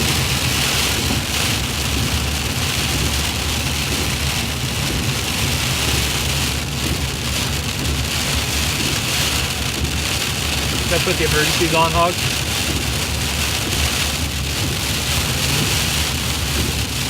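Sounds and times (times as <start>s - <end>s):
car engine and tyre rumble: 0.0s - 17.0s
freezing rain hissing on car: 0.0s - 17.0s.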